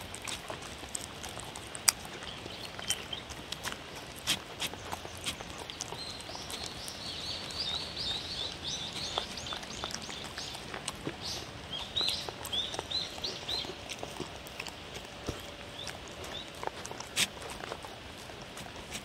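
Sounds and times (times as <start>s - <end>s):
dog licking and chewing: 0.0s - 19.0s
songbird chirping: 1.9s - 3.8s, 4.6s - 19.0s.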